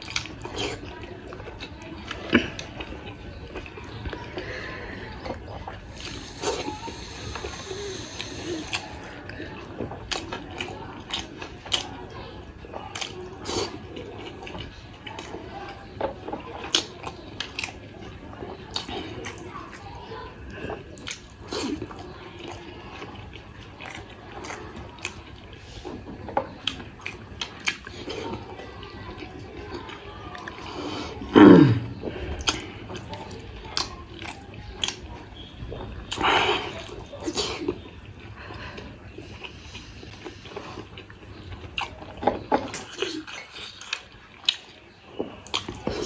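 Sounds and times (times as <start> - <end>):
wet chewing with smacks: 0.0 - 46.0.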